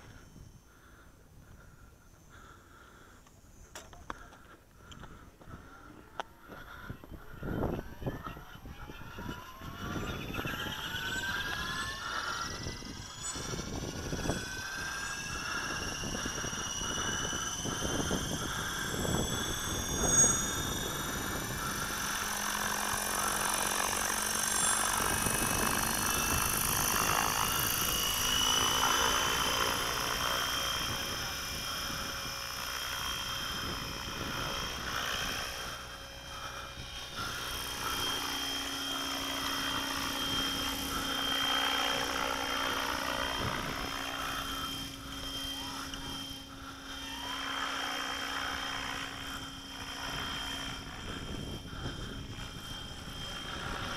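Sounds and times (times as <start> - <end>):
low rotor hum: 0.0 - 53.9
rc helicopter motor whine: 0.0 - 53.9.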